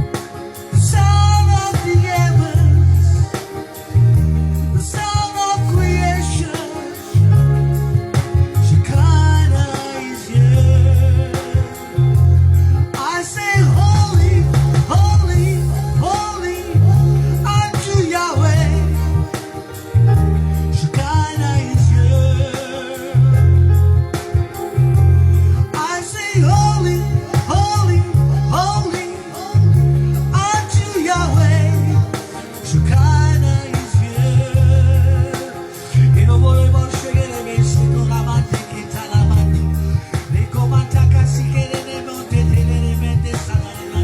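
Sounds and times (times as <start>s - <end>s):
person singing gospel: 0.0s - 44.0s
heavy sustained bass line: 0.8s - 3.3s, 4.0s - 5.0s, 5.6s - 6.5s, 7.2s - 12.9s, 13.6s - 22.5s, 23.2s - 28.9s, 29.6s - 32.1s, 32.7s - 35.4s, 36.0s - 37.0s, 37.6s - 38.6s, 39.2s - 41.7s, 42.3s - 43.4s.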